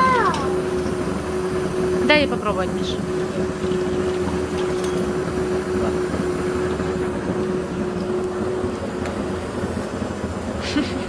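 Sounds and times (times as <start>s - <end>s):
vacuum cleaner motor drone: 0.0s - 11.0s.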